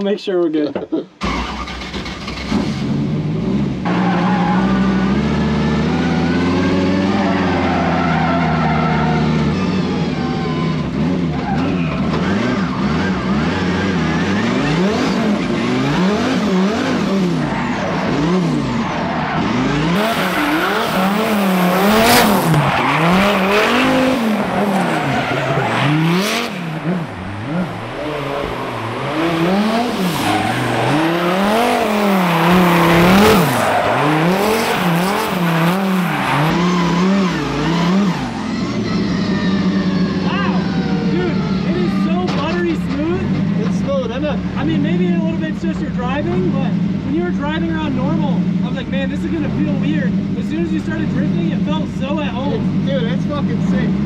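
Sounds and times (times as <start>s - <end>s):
car engine revving: 1.2s - 54.0s
tyres skidding and squealing: 1.2s - 54.0s.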